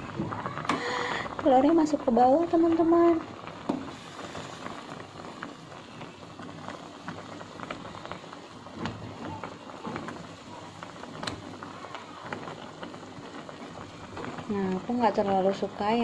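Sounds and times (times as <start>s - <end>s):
broth bubbling at a boil: 0.0s - 16.0s.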